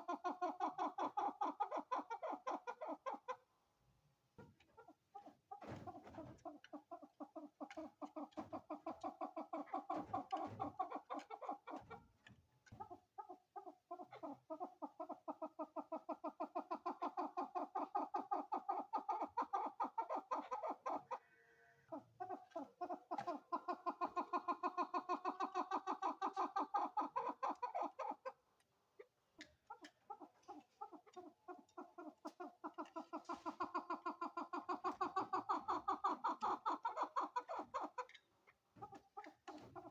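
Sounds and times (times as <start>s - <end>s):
partridge clucking calls: 0.0s - 3.5s, 4.4s - 21.2s, 21.9s - 39.9s.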